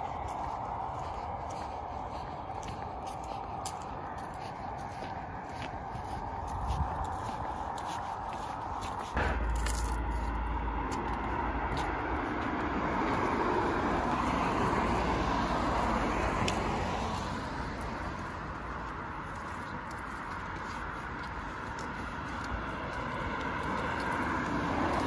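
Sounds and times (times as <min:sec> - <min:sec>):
car passing on road: 0:00.0 - 0:25.0
wind rumbling on microphone: 0:00.0 - 0:25.0.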